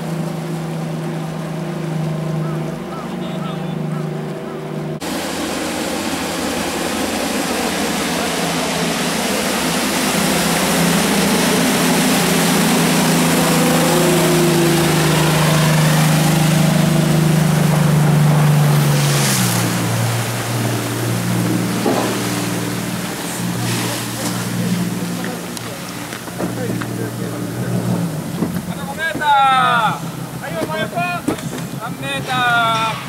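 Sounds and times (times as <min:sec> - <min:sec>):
boat motor passing: 0:00.0 - 0:33.0
rush of spray and wake: 0:00.0 - 0:33.0.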